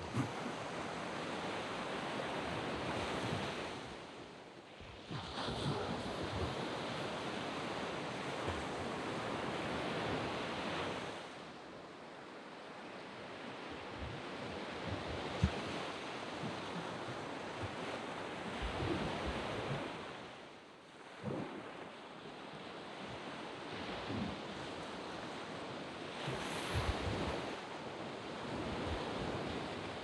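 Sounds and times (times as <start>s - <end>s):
waves washing up a sand beach: 0.0s - 30.0s.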